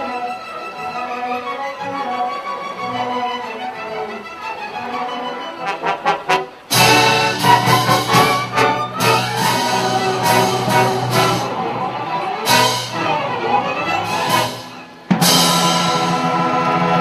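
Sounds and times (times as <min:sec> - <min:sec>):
orchestra playing with brass: 0:00.0 - 0:17.0.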